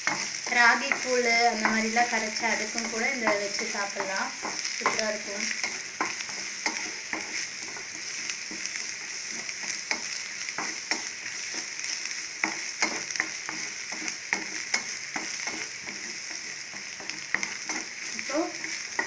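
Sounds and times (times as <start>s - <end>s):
food sizzling in oil: 0.0s - 19.0s
wooden spatula scraping pan: 0.0s - 19.0s.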